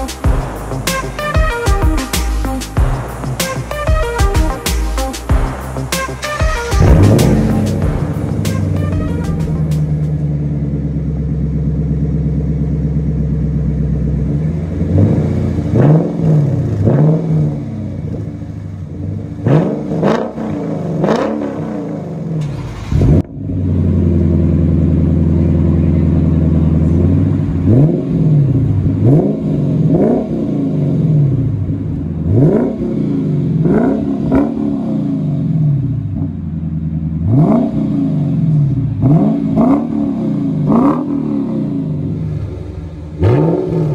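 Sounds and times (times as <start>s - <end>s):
car engine idling: 0.0s - 43.9s
engine revving: 0.0s - 43.9s.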